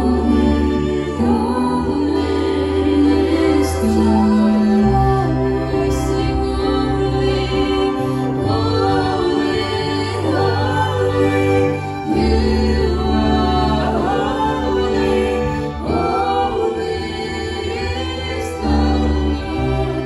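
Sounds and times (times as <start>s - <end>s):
held bass line: 0.0s - 20.0s
people singing worship music: 0.0s - 20.0s
sustained chords: 0.0s - 20.0s.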